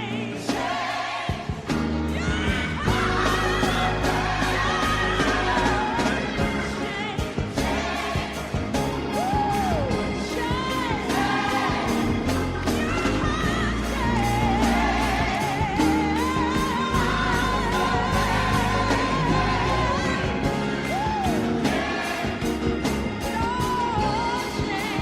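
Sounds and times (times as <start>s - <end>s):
gospel singing over a beat: 0.0s - 25.0s.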